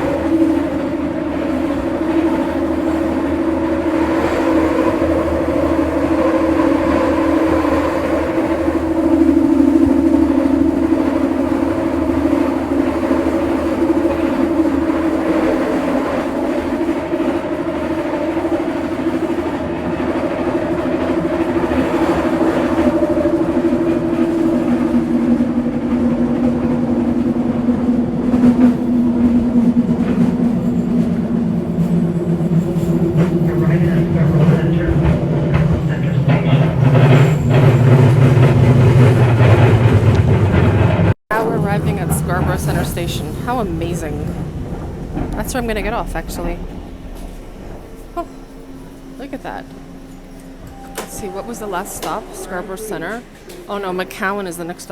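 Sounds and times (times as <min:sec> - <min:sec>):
train rumble: 0:00.0 - 0:54.9.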